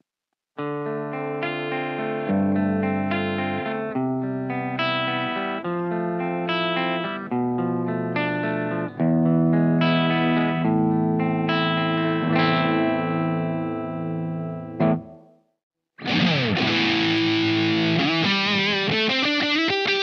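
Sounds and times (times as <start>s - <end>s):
clean electric guitar chords: 0.6s - 15.4s, 16.0s - 20.0s.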